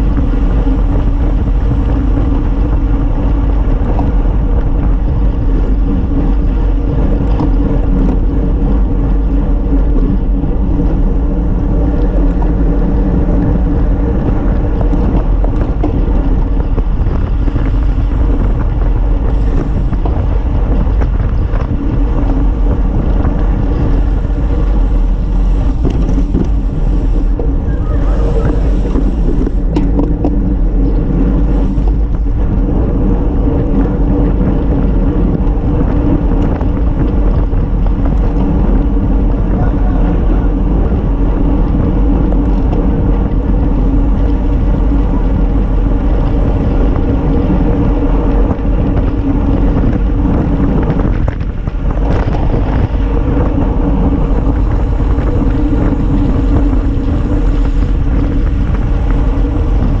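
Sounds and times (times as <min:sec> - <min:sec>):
road noise: 0:00.0 - 1:00.0
wind rush on microphone: 0:00.0 - 1:00.0.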